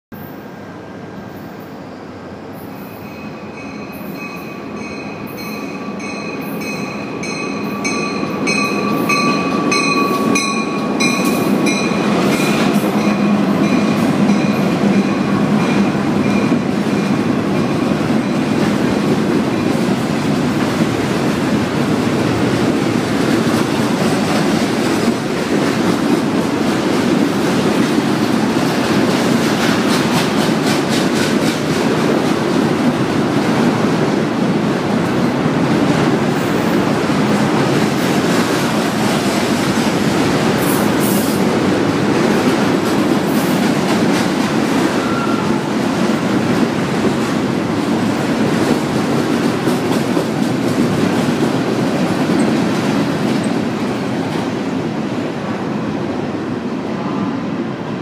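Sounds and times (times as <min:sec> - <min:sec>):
freight train wheels rumbling: 0:00.2 - 0:58.0.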